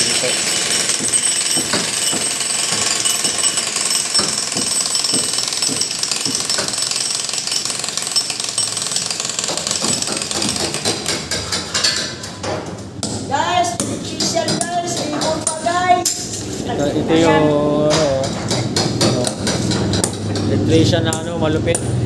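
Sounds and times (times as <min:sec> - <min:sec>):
jackhammer hammering: 0:00.0 - 0:12.2, 0:13.0 - 0:16.4, 0:17.9 - 0:22.0.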